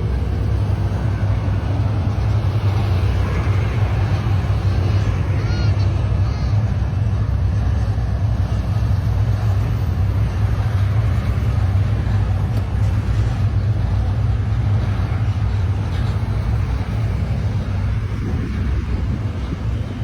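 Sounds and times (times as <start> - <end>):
light rail train rumbling: 0.0 - 20.0.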